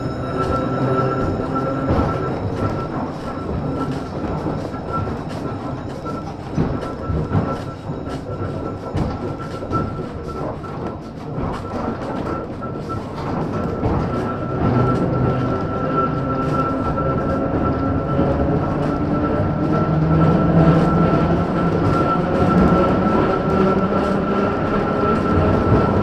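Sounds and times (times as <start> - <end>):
steady high tone: 0.0 - 26.0
tram rumbling and rattling: 0.0 - 26.0
wheels clicking over track: 0.0 - 26.0.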